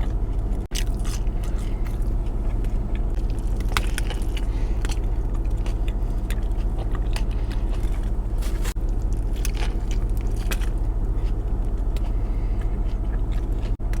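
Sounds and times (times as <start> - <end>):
chewing and biting food: 0.0 - 14.0
steady low hum: 0.0 - 14.0.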